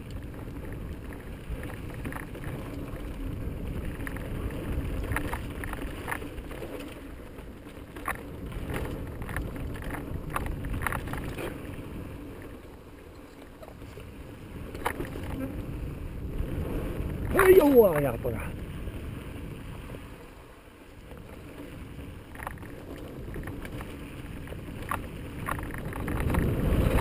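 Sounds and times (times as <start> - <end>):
wind on microphone: 0.0 - 12.6, 13.5 - 20.4, 21.0 - 27.0
bike clicks and rattles: 0.0 - 15.6, 21.0 - 27.0.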